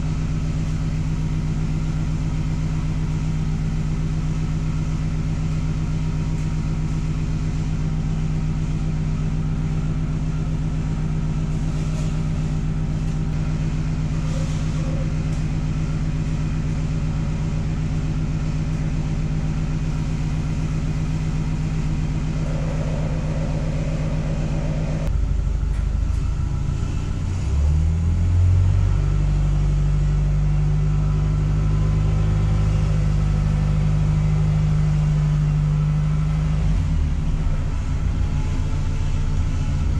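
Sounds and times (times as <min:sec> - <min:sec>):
forklift engine idling and revving: 0:00.0 - 0:39.9.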